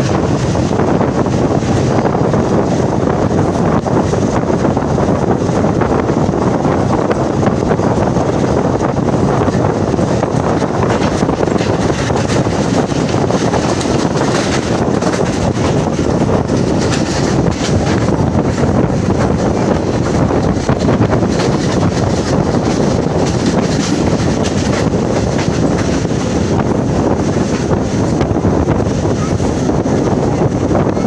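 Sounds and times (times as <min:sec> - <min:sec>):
train running at speed: 0:00.0 - 0:31.0
wind rushing over microphone: 0:00.0 - 0:31.0.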